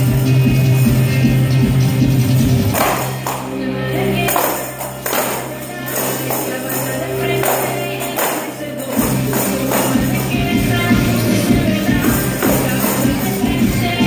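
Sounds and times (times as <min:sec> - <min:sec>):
heavy bass: 0:00.0 - 0:14.0
music: 0:00.0 - 0:14.0
tambourines jingling: 0:00.0 - 0:14.0.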